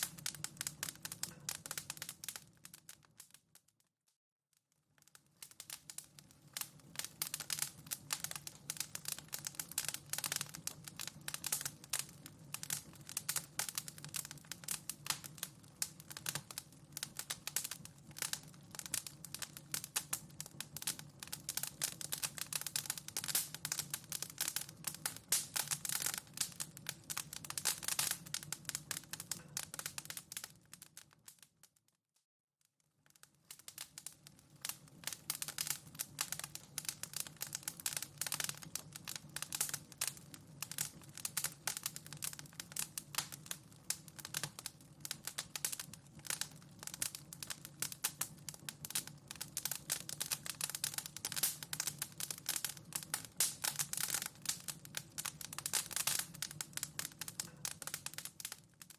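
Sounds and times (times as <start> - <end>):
wood fire crackling: 0.0 - 3.8, 4.6 - 31.8, 32.8 - 58.9.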